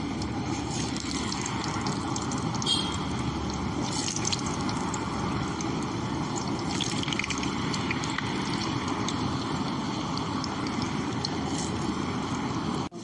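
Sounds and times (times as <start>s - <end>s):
potatoes sizzling in hot oil: 0.0s - 12.9s.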